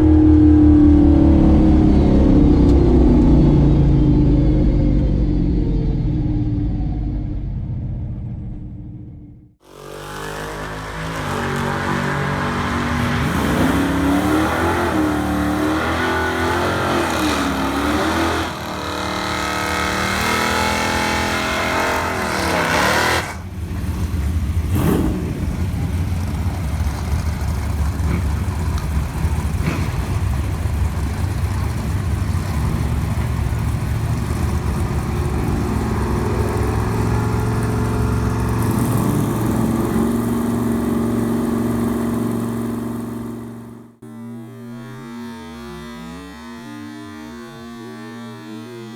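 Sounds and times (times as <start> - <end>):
engine revving: 8.6 - 48.9.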